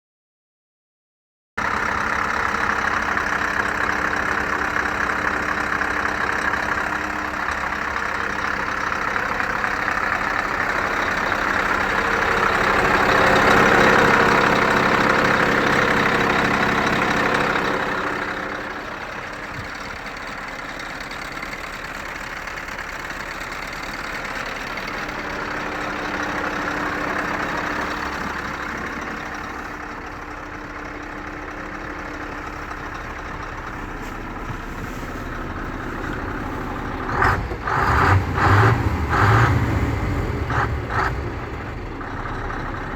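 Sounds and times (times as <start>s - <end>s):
diesel truck engine idling: 1.6s - 42.9s.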